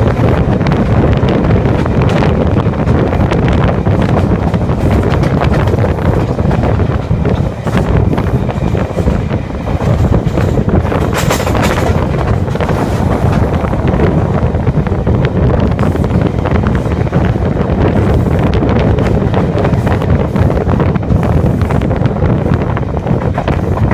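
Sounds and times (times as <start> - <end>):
train rumble: 0.0 - 23.9
wheels clicking on track: 0.0 - 23.9
wind buffeting microphone: 0.0 - 23.9.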